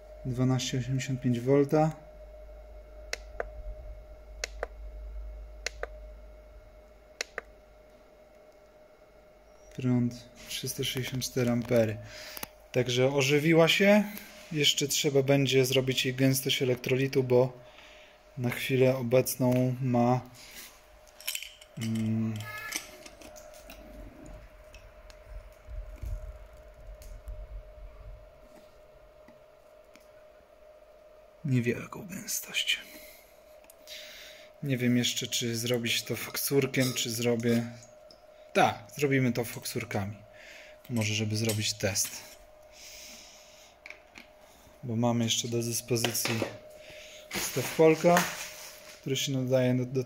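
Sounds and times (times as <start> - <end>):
faint steady tone: 0.0 - 50.0
faint steady whine: 0.0 - 50.0.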